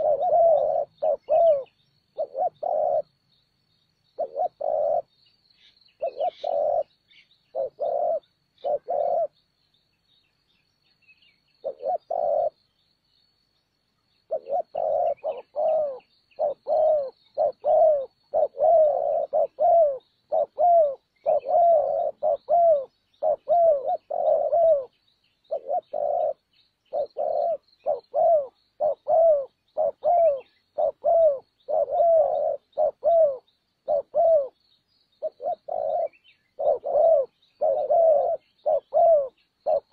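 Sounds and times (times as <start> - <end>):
dove cooing: 0.0 - 3.2, 4.1 - 9.5, 11.6 - 12.7, 14.2 - 34.6, 35.2 - 39.9.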